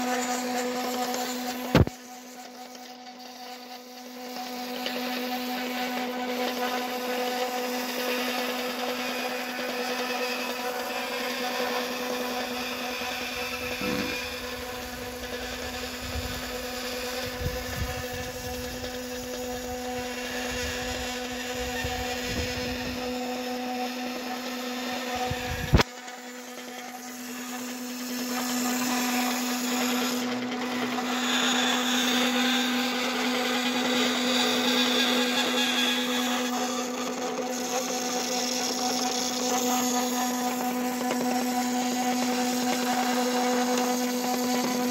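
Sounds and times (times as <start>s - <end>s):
small electric motor whining hum: 0.0s - 44.9s.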